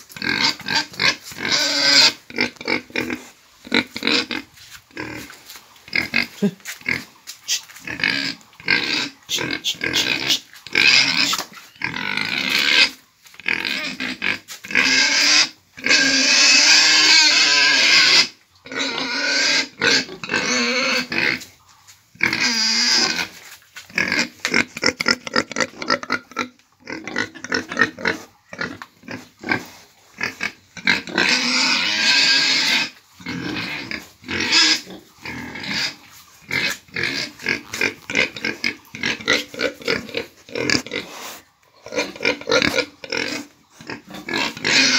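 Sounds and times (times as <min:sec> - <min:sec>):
pigs squealing and grunting: 0:00.0 - 0:44.9.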